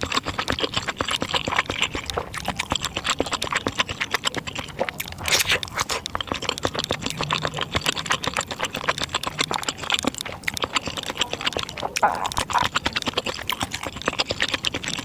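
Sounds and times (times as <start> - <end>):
mouth clicks: 0.0 - 15.0
wet chewing: 0.0 - 15.0.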